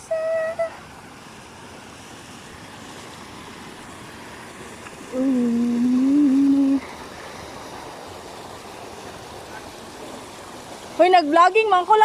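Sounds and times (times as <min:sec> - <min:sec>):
flowing water: 0:00.0 - 0:12.0.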